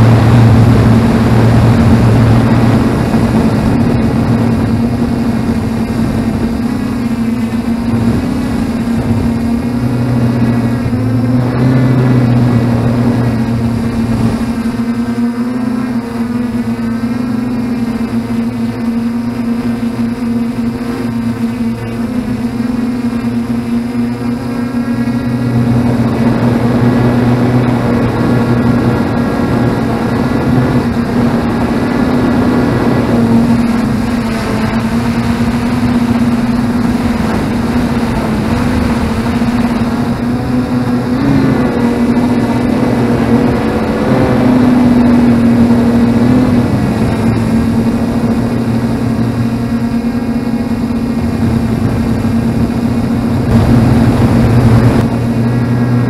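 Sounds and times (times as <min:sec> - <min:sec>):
drone motors droning: 0:00.0 - 0:56.0.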